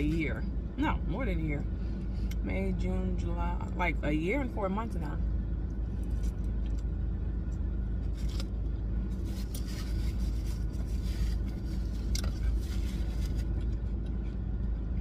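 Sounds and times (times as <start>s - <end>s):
low car hum: 0.0s - 15.0s.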